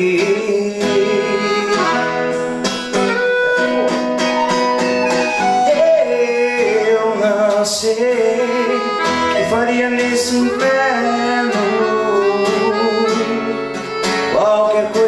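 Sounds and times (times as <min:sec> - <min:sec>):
accordion held notes: 0:00.0 - 0:15.0
guitar strumming and picking: 0:00.0 - 0:15.0.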